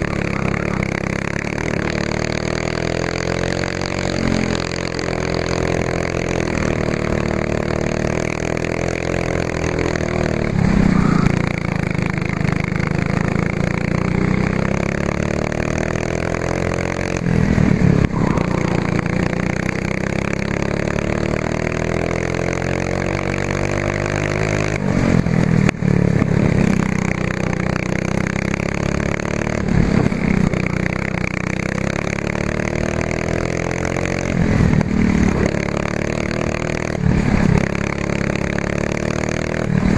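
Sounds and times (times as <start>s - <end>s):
kart chassis rattling: 0.0s - 39.9s
racing kart engine revving: 0.0s - 39.9s.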